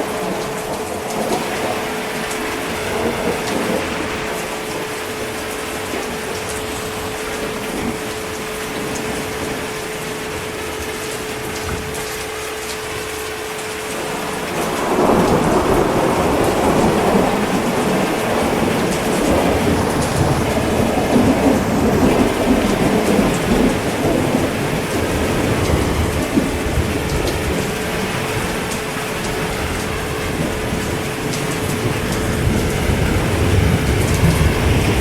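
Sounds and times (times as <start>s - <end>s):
heavy rain falling: 0.0s - 35.0s
rolling thunder rumble: 0.0s - 35.0s.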